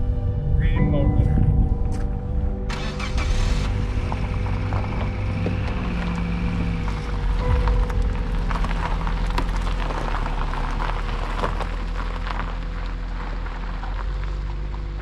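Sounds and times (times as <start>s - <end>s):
car engine running low: 0.0s - 15.0s
tyres crunching on gravel: 2.7s - 15.0s.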